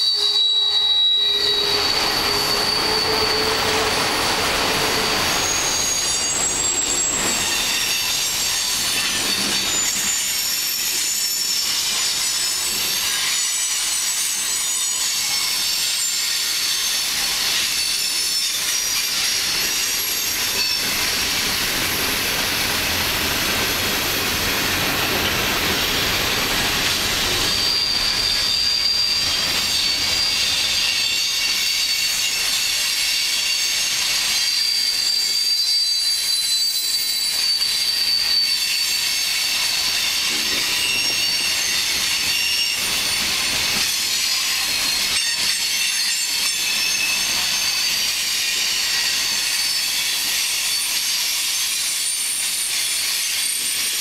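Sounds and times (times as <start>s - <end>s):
high thin wheel squeal: 0.0s - 22.0s, 23.0s - 54.0s
freight train wheels rumbling: 0.0s - 54.0s.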